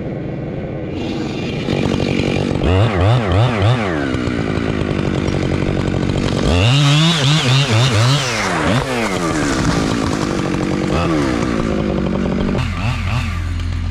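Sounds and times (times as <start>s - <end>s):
chainsaw revving: 0.9s - 13.9s.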